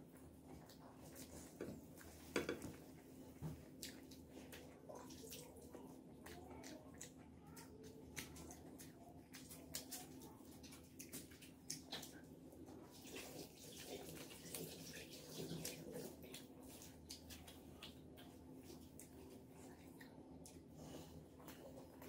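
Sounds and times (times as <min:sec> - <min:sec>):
fingers mixing food wet squishing: 0:00.0 - 0:22.0.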